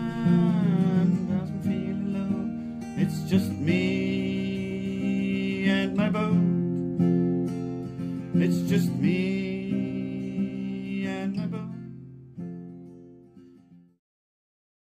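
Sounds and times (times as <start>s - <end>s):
strummed acoustic guitar music: 0.0s - 14.0s.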